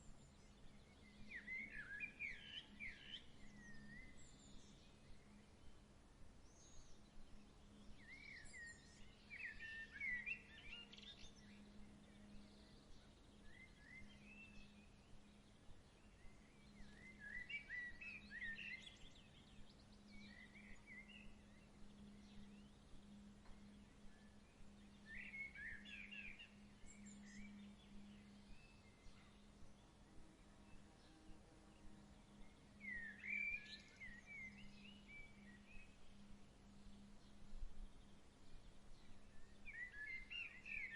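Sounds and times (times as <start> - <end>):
faint low hum: 0.0 - 40.9
songbird singing: 0.0 - 40.9.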